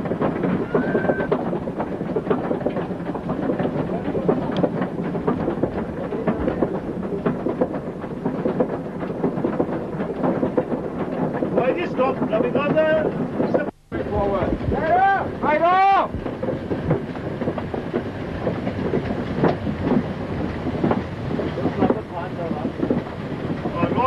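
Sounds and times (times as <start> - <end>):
mining machinery rattling rumble: 0.0 - 24.0
small knocks and clatters: 0.0 - 24.0.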